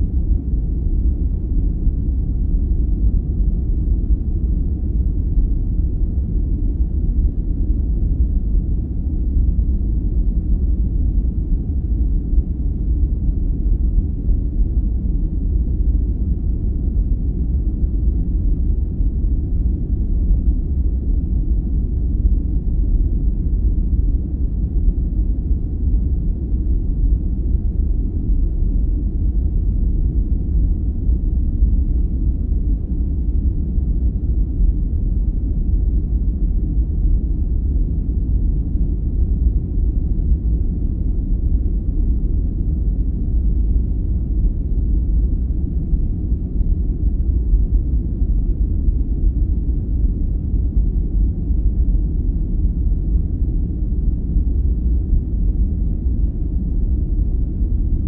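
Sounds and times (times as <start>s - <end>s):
deep even rumble noise: 0.0s - 58.0s.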